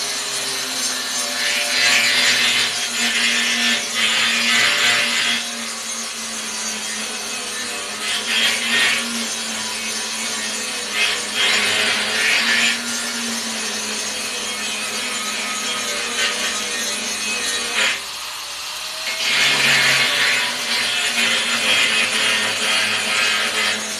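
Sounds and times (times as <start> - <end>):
grinder disc rasping on metal: 0.0 - 23.9.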